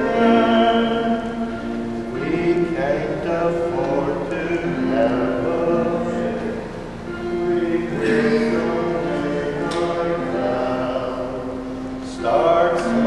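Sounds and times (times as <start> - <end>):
group singing a carol: 0.0 - 13.0.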